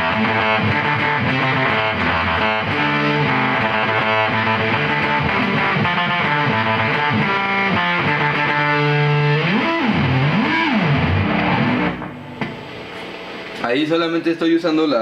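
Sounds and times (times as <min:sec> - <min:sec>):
distorted electric guitar: 0:00.0 - 0:13.6.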